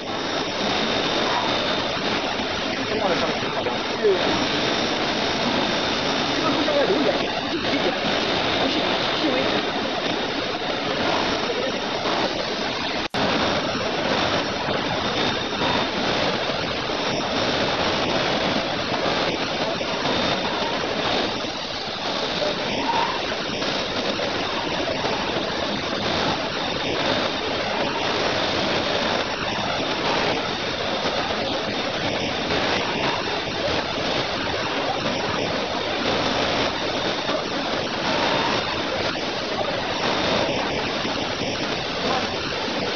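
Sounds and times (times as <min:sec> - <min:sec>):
faint high whine: 0:00.0 - 0:42.9.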